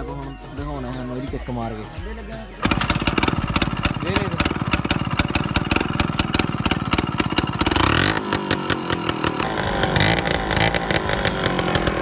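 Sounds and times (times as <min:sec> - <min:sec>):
scooter engine revving: 0:00.8 - 0:12.0.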